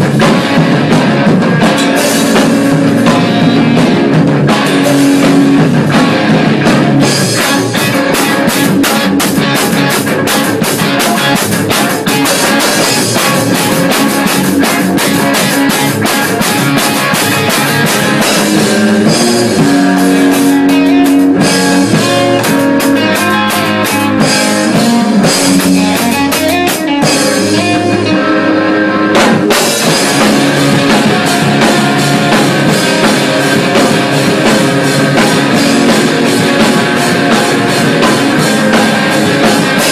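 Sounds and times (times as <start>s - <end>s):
drum kit and cymbal hits: 0.0s - 39.9s
electric guitars: 0.0s - 39.9s.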